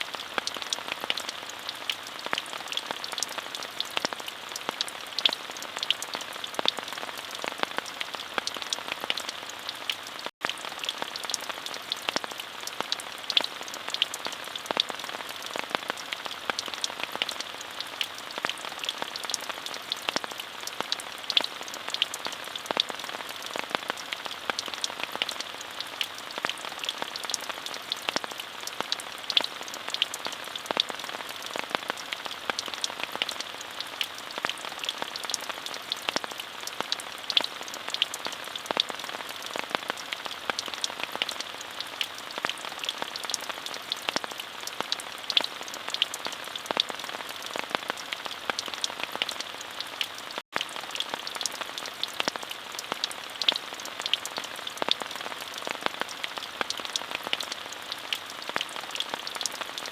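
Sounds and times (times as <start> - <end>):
raindrops tapping a surface: 0.1 - 59.9.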